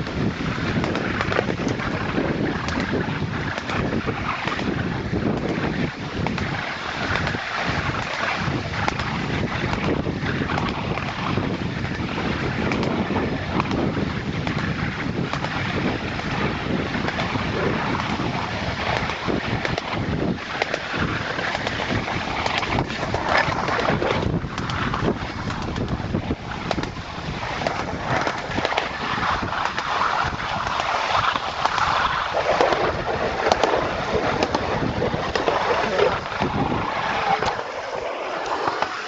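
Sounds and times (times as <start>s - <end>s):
wheels rumbling on rail: 0.0s - 39.0s
wind on microphone: 0.0s - 39.0s.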